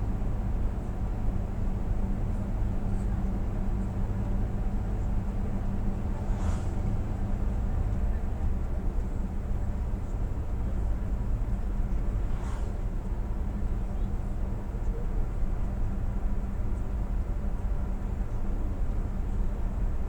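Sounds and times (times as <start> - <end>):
truck engine and road drone: 0.0 - 20.0.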